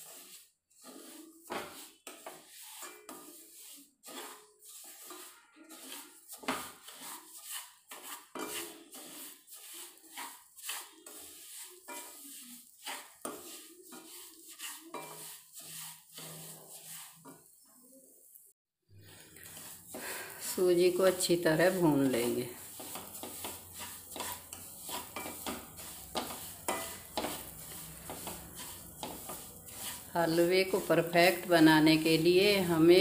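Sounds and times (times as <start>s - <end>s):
wooden spatula scraping metal pan: 0.0s - 18.4s, 19.0s - 33.0s.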